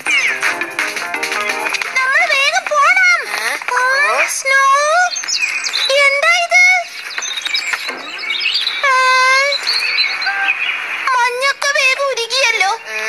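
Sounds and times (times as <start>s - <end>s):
cartoon birds chirping: 0.0s - 13.0s.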